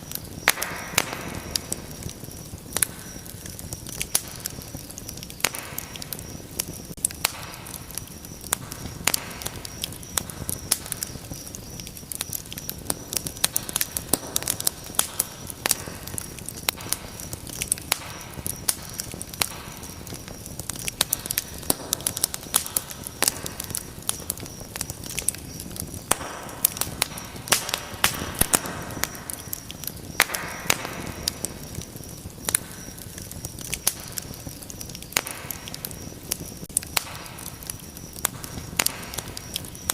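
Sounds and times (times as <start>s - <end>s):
rush of flames: 0.0s - 39.9s
wood fire crackling and popping: 0.0s - 39.9s.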